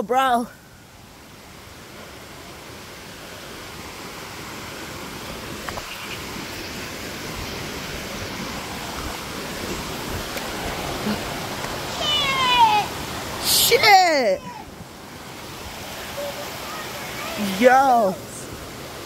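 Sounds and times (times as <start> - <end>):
rushing creek water: 0.0 - 19.0.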